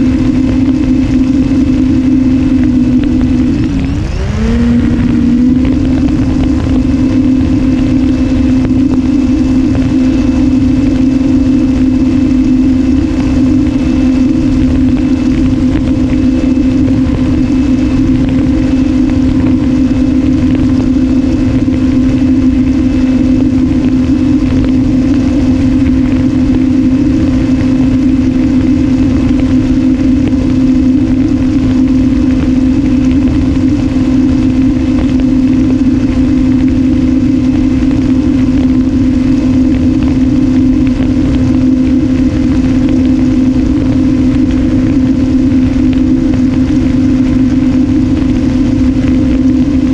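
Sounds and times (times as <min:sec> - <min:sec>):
electric motor and propeller drone: 0:00.0 - 0:49.9
wind rushing: 0:00.0 - 0:49.9.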